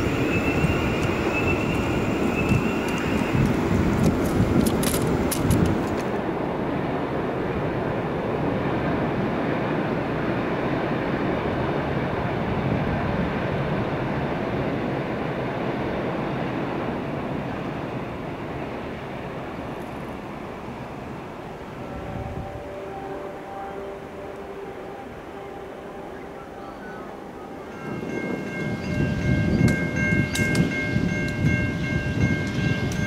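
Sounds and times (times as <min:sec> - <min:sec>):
distant train rumbling: 0:00.0 - 0:33.0.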